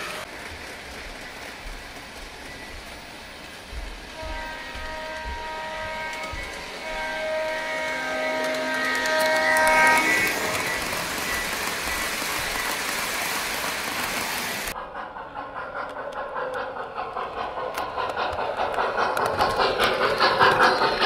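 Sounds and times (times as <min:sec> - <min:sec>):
model steam locomotive clatter: 0:00.0 - 0:21.0
model train rushing past: 0:00.0 - 0:21.0.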